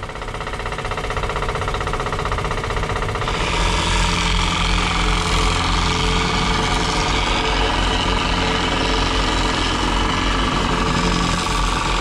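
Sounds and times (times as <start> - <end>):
heavy diesel engine rattly knock: 0.0 - 12.0.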